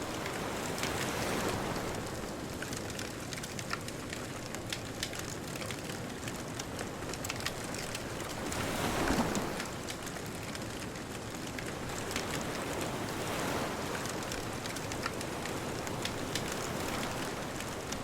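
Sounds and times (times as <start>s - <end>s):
bonfire crackling and popping: 0.0s - 18.0s
distant ocean waves: 0.0s - 18.0s.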